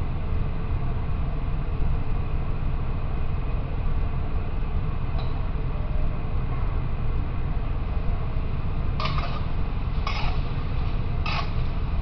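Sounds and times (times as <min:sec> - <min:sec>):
kitchen fan running: 0:00.0 - 0:12.0.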